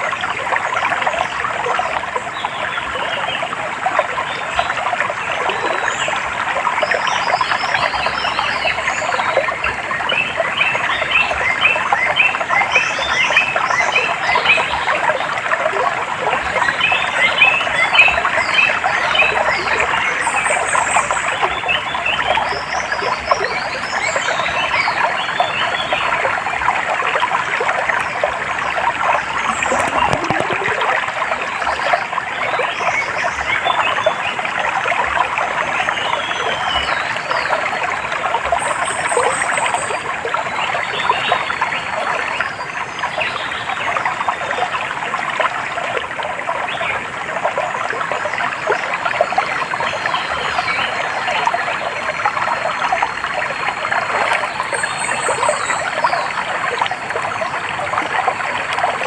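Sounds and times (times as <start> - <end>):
water trickling and babbling: 0.0 - 59.0.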